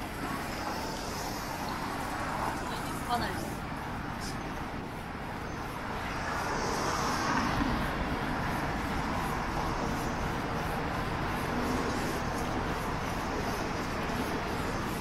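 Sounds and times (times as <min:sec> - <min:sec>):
city street traffic: 0:00.0 - 0:15.0
vehicle passing: 0:00.0 - 0:15.0
wind rumble on microphone: 0:00.0 - 0:15.0.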